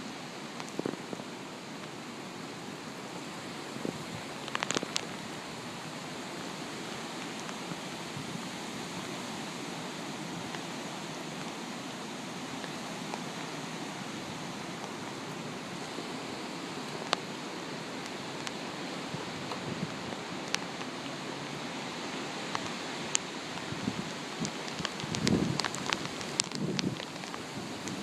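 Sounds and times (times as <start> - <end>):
wind and rain rushing: 0.0 - 28.0.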